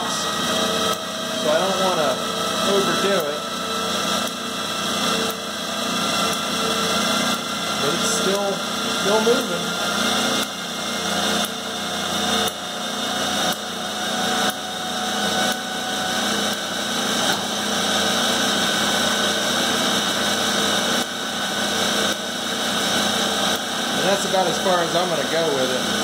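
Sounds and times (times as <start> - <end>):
lathe running: 0.0 - 26.0.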